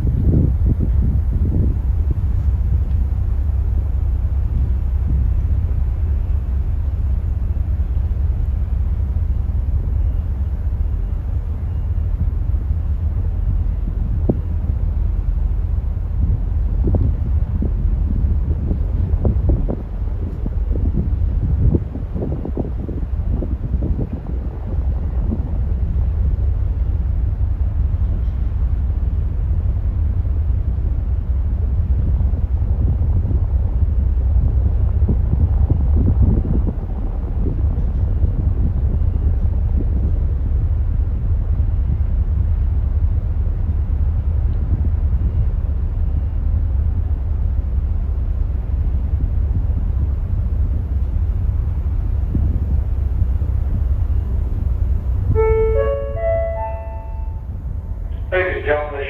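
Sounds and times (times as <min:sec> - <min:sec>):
wind buffeting microphone: 0:00.0 - 0:58.4
ferry engine rumble: 0:00.0 - 0:59.0.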